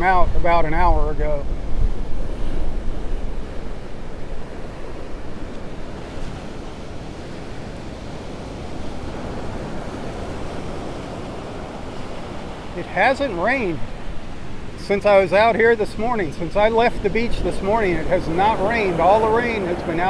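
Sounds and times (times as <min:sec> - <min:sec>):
surf breaking: 0:00.0 - 0:20.0
wind buffeting microphone: 0:00.0 - 0:20.0.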